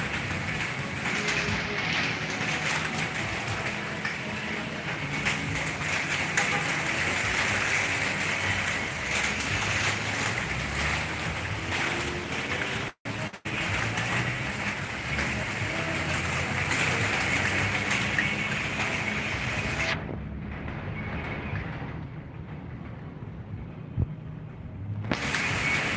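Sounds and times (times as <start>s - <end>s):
heavy rain: 0.0s - 25.9s.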